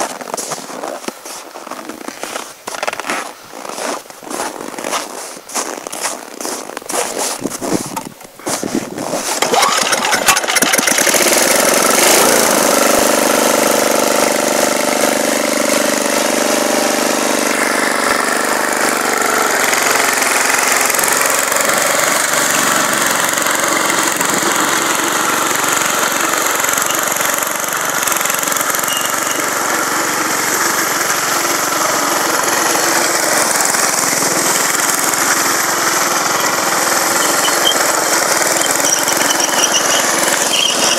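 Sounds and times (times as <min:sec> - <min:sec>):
snowblower engine running: 0:03.6 - 0:40.9.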